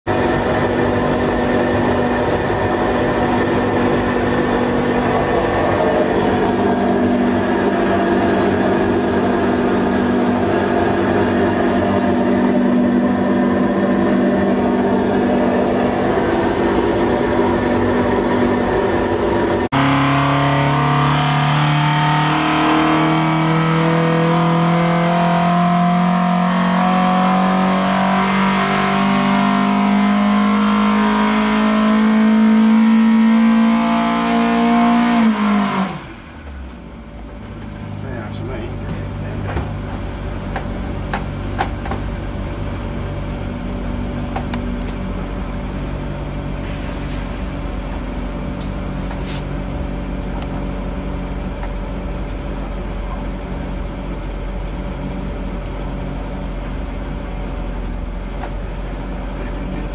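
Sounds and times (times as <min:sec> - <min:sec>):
engine running on dyno: 0:00.0 - 0:59.9.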